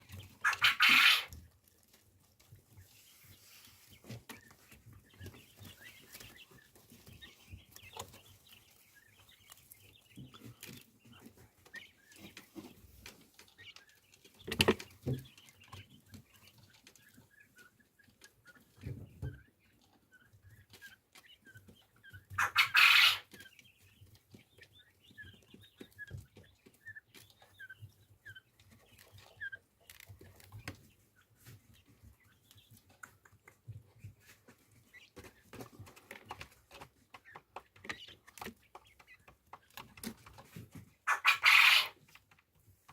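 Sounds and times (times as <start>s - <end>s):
quail peeping calls: 0.0s - 42.9s.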